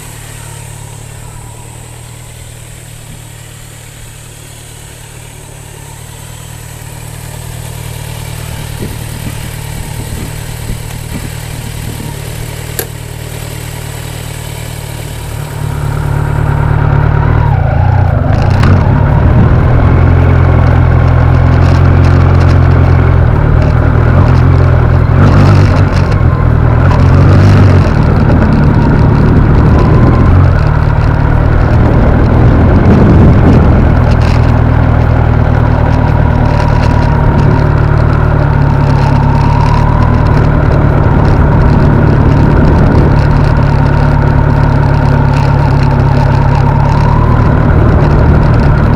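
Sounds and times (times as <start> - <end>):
motorcycle engine droning: 0.0 - 48.9.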